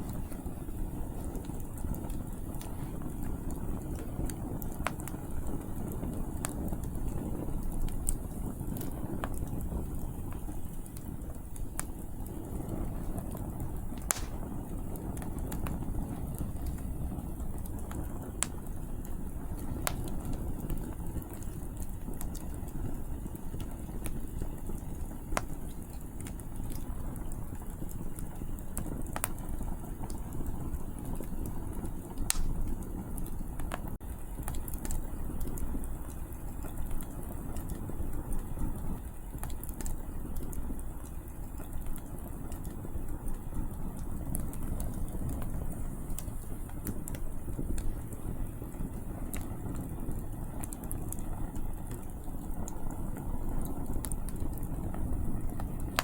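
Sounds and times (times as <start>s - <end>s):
firewood crackling and popping: 0.0s - 56.0s
low rush of wind and flame: 0.0s - 56.0s.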